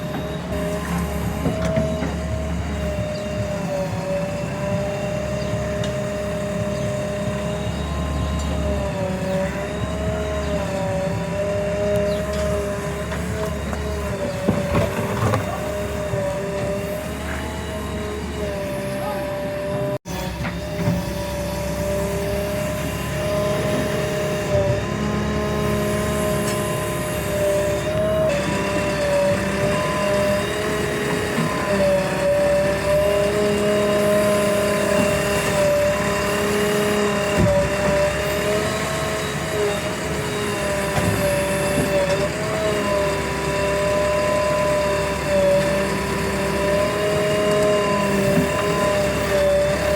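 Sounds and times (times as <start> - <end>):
diesel engine rumbling: 0.0 - 49.9
engine whine: 0.0 - 49.9.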